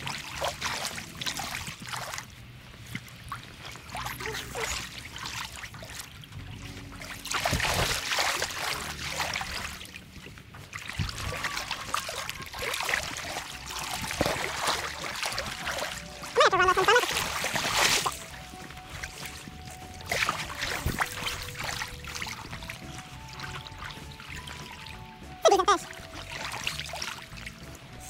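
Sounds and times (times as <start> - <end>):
river water splashing and lapping: 0.0 - 28.0.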